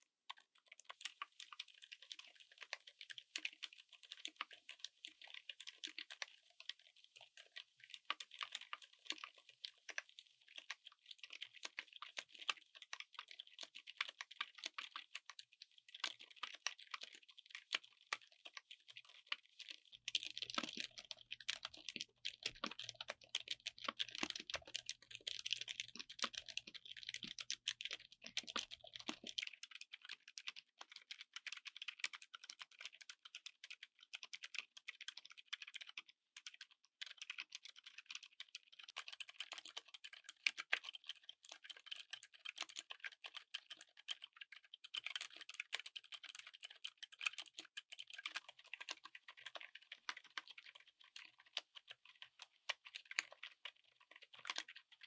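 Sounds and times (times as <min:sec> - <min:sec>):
fast typing on keyboard: 0:00.3 - 0:55.0.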